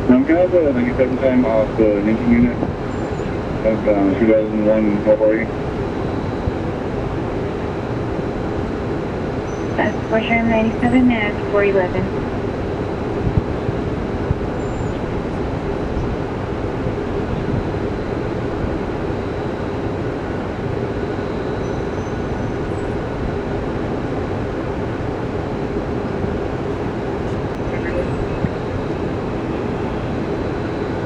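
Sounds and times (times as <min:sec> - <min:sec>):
mechanical engine rumble: 0:00.0 - 0:31.0.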